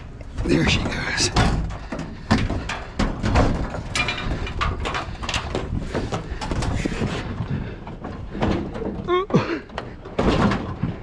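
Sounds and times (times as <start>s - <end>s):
heavy scrap clunking and scraping: 0.0s - 11.0s.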